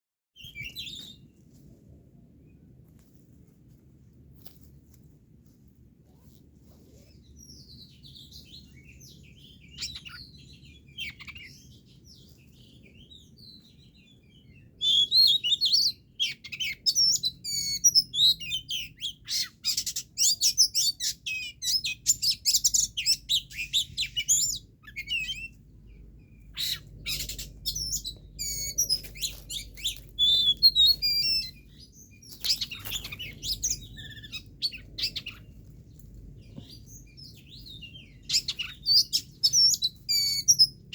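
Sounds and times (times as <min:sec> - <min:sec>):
songbirds chirping: 0:00.4 - 0:40.9.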